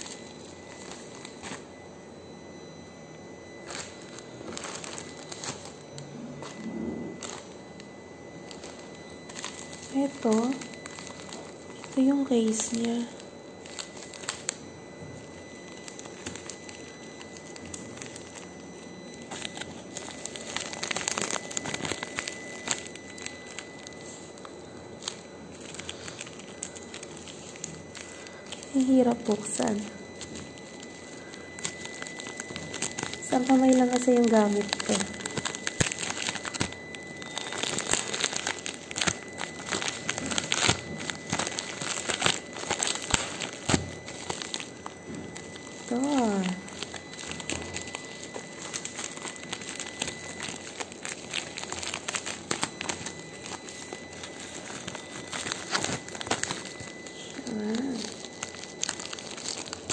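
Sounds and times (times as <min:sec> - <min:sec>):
plastic packaging crinkling: 0:00.0 - 0:59.9.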